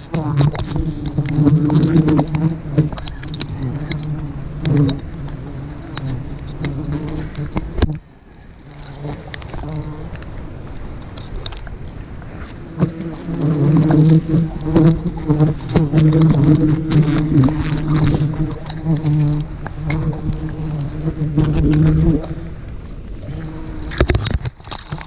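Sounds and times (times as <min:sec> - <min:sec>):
bees buzzing: 0:00.0 - 0:25.0
handling clicks and rustles: 0:00.0 - 0:25.0.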